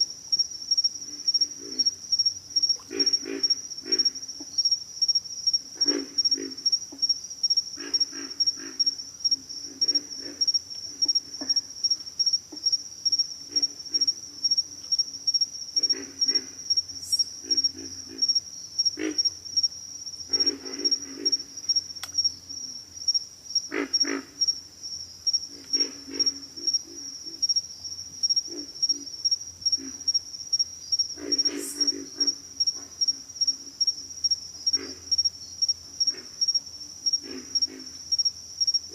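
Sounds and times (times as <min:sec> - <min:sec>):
pulsing insect trill: 0:00.0 - 0:38.9
frogs grunting: 0:00.9 - 0:07.1, 0:07.7 - 0:22.2, 0:23.6 - 0:24.6, 0:25.3 - 0:27.6, 0:28.2 - 0:30.3, 0:31.0 - 0:38.9.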